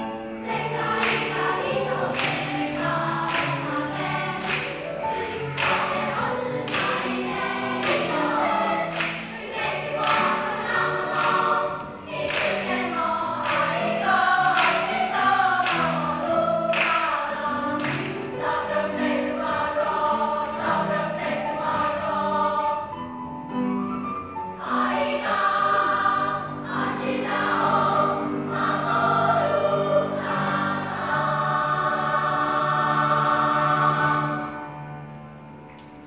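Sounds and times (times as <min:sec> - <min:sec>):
children's choir singing: 0:00.0 - 0:36.0.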